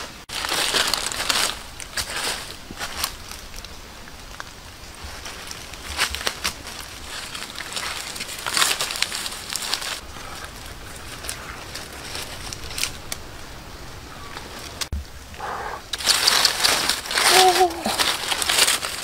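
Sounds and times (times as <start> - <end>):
dry leaves rustling and crackling: 0.0 - 15.3, 15.9 - 19.0.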